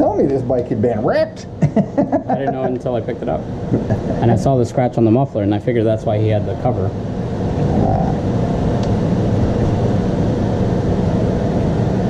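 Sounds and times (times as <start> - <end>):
machinery rumbling: 0.0 - 12.0.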